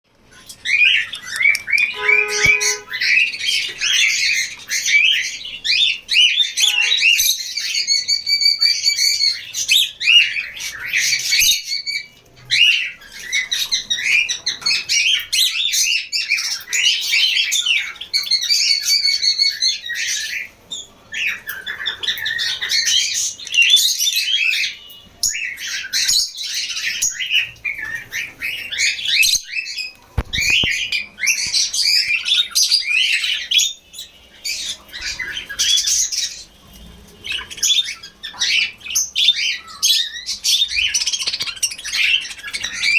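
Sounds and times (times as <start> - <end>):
parrots chattering: 0.3 - 42.9.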